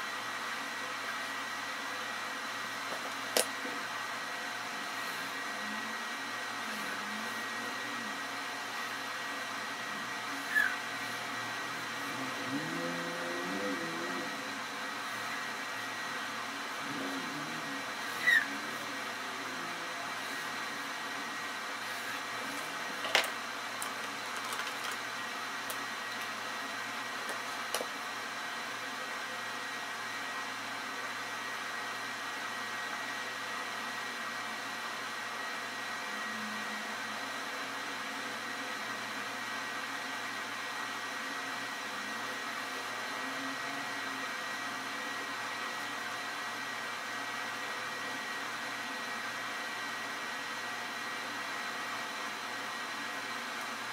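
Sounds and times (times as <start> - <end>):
faint high whine: 0.0 - 24.2, 25.1 - 53.9.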